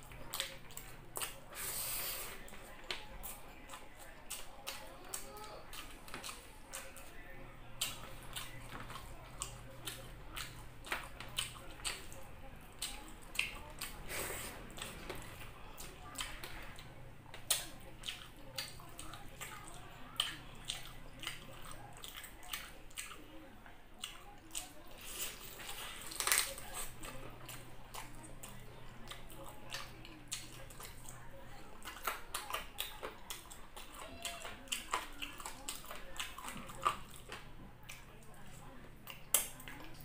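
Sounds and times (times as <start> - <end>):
chewing and lip-smacking: 0.0 - 40.0.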